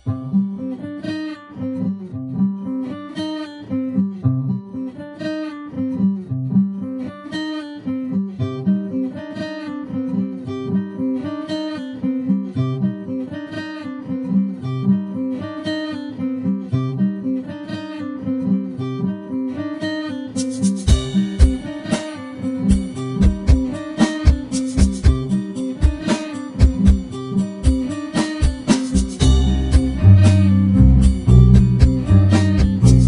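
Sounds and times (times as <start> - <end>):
acoustic guitar picking and strumming: 0.0 - 33.0.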